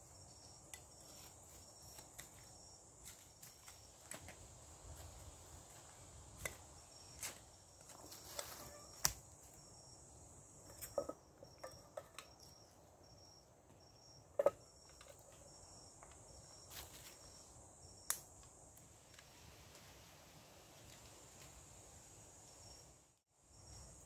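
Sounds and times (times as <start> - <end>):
crickets chirping: 0.0 - 24.0
insect drone: 0.0 - 24.0.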